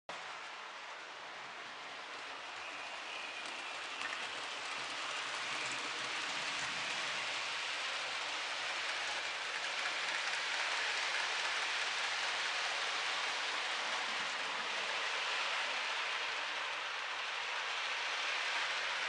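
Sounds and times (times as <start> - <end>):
model train whirring on track: 0.1 - 19.0.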